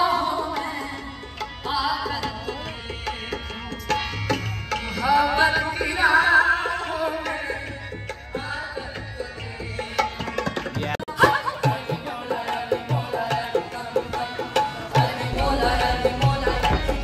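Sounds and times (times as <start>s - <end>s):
tabla drumming: 0.0s - 17.0s.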